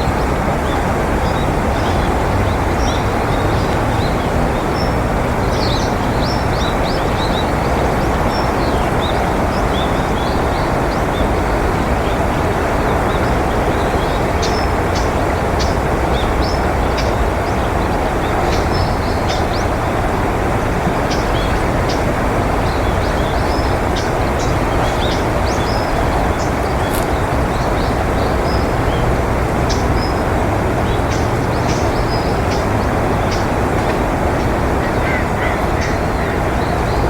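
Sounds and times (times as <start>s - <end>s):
loud steady rushing noise: 0.0s - 37.0s
small birds chirping: 0.0s - 37.0s.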